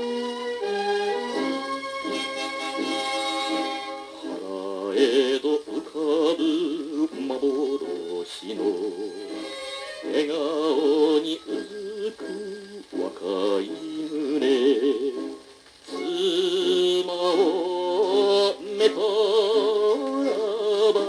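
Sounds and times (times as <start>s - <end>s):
instrumental backing: 0.0s - 21.0s
man singing with vibrato: 3.6s - 21.0s.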